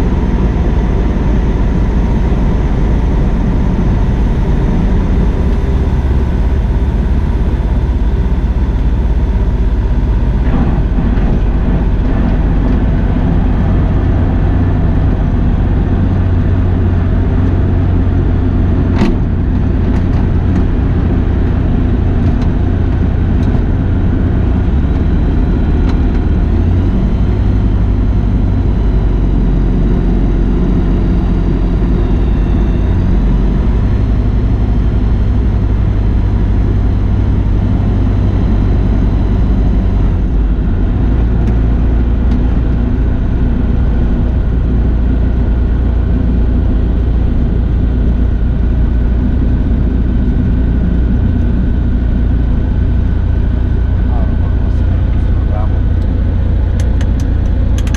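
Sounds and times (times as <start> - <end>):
light aircraft engine droning: 0.0 - 57.9.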